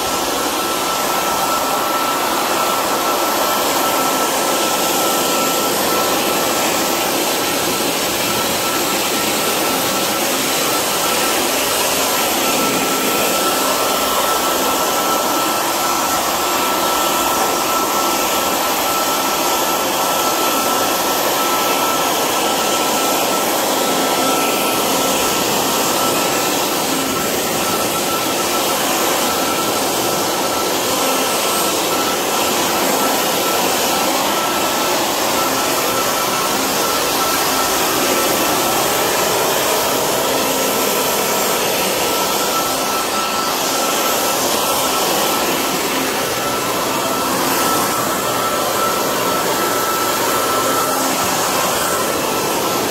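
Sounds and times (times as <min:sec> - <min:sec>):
leaf blower running: 0:00.0 - 0:52.9.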